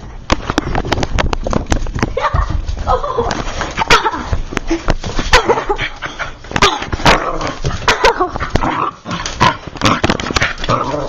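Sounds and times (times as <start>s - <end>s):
scuffling: 0.2s - 11.0s.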